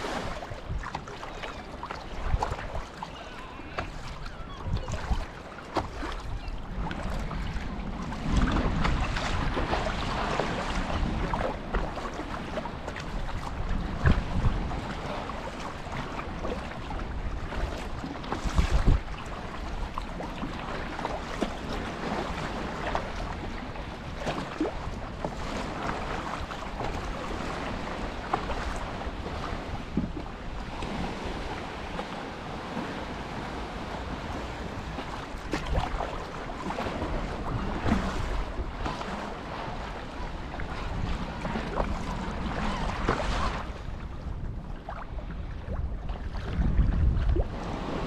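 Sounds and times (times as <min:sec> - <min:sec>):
wind buffeting microphone: 0:00.0 - 0:01.2, 0:02.1 - 0:48.0
water lapping against kayak: 0:00.0 - 0:48.0.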